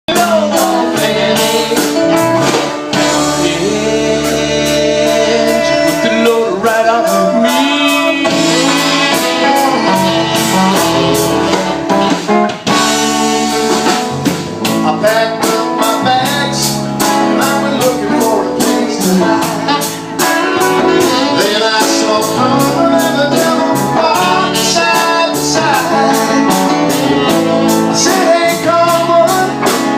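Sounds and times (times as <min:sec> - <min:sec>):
person singing: 0:00.0 - 0:11.6, 0:14.6 - 0:29.9
guitar: 0:00.0 - 0:29.9
drum kit beat: 0:00.1 - 0:29.9.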